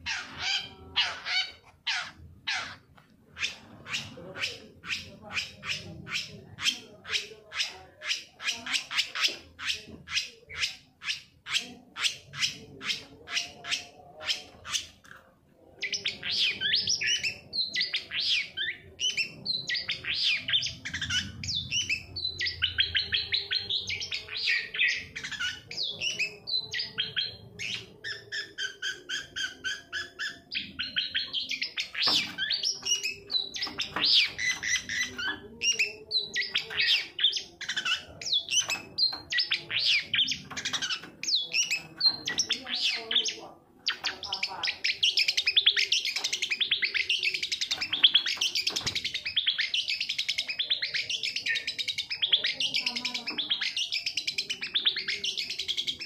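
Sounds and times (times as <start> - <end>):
bird chattering warbled song: 0.0 - 15.2, 15.8 - 56.0.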